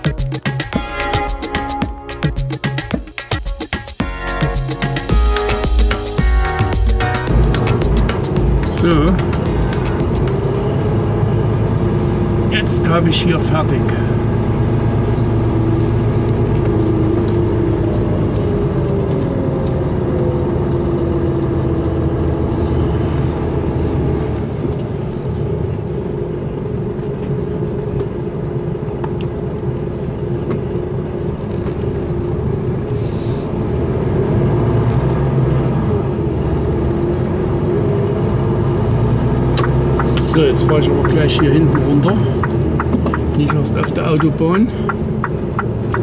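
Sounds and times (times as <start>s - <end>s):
truck diesel engine running: 4.1s - 27.5s, 30.2s - 46.0s.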